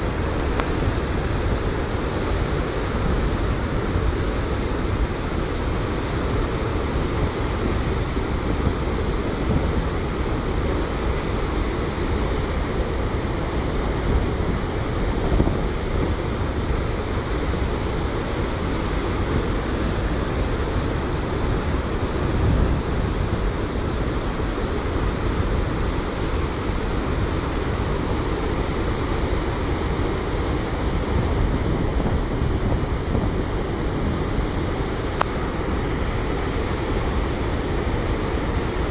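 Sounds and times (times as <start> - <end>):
heavy rush of water: 0.0 - 38.9.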